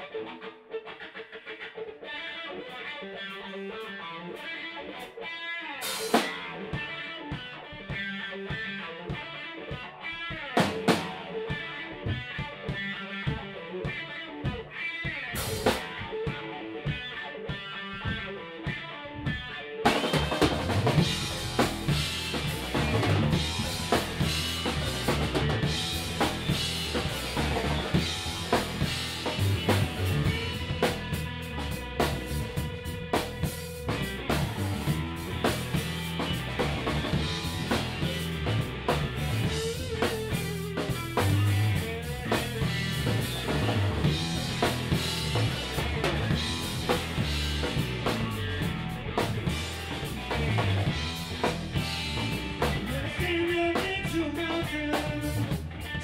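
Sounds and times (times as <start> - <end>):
electric guitar lead: 0.0 - 56.0
rock band playing: 0.0 - 56.0.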